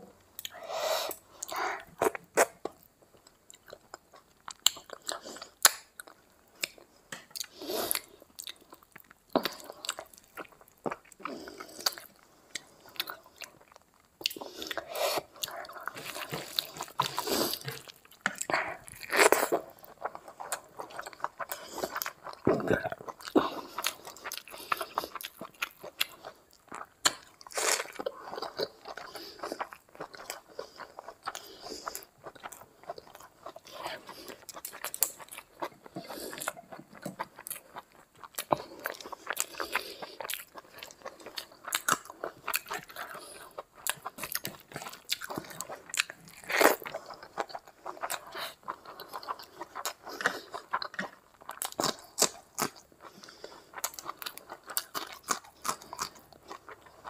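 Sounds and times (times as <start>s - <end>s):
wet chewing: 0.4s - 57.0s.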